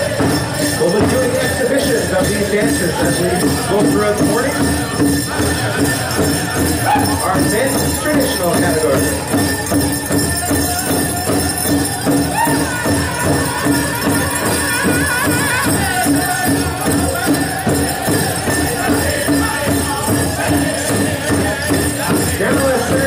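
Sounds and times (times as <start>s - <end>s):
bells jingling: 0.0s - 23.0s
big drum steady beat: 0.0s - 23.0s
voices singing: 0.0s - 23.0s.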